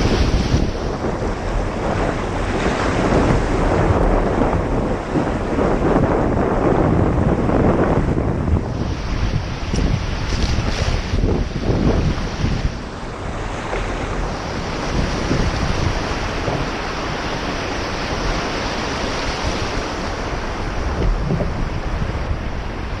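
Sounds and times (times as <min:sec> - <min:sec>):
sea wash: 0:00.0 - 0:23.0
wind buffeting microphone: 0:00.0 - 0:23.0.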